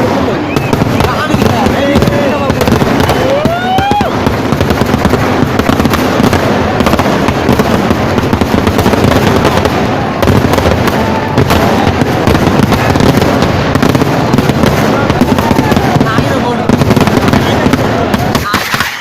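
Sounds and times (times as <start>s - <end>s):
firecrackers banging: 0.0s - 19.0s.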